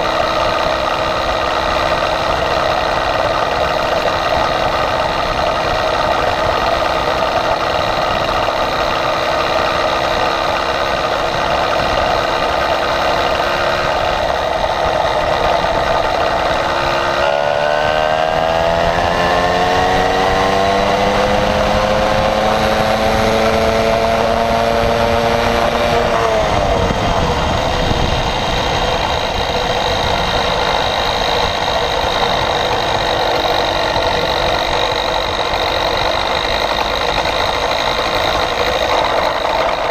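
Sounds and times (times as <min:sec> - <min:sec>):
small bicycle engine running: 0:00.0 - 0:39.9.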